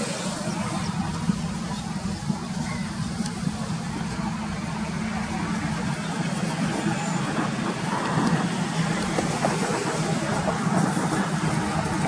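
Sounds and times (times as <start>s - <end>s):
road noise hiss: 0.0s - 12.0s
truck diesel engine drone: 0.0s - 12.0s.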